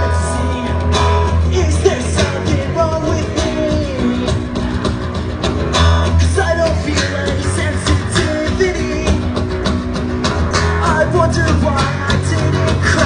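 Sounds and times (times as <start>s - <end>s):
person singing: 0.0s - 5.0s, 6.1s - 9.4s, 10.8s - 13.0s
electric guitar: 0.0s - 13.0s
strummed acoustic guitar: 0.0s - 13.0s.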